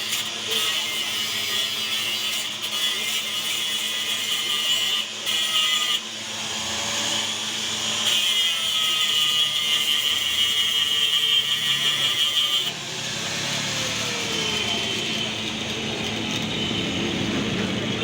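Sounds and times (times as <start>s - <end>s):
hissing power tool on metal: 0.0s - 17.1s.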